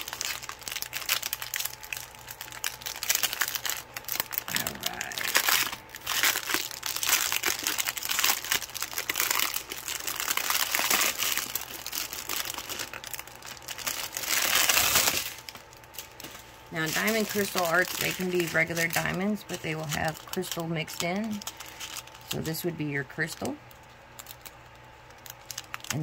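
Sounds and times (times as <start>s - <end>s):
plastic bag crinkling and rustling: 0.0s - 26.0s.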